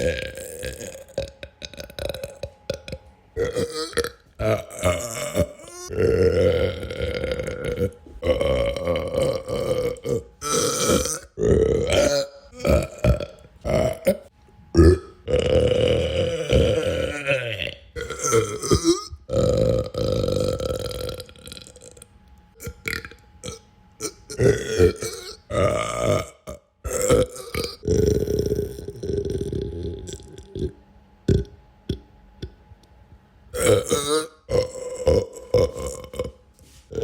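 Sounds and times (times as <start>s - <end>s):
person belching: 0.0s - 32.6s, 33.5s - 37.0s.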